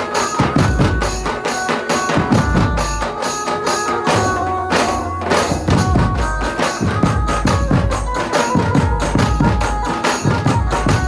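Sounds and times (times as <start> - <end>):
held melodic line: 0.0 - 11.0
large drums beaten fast: 0.0 - 11.0.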